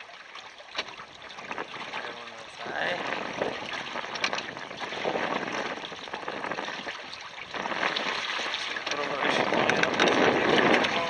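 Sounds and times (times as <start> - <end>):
water rushing along hulls: 0.0 - 11.0.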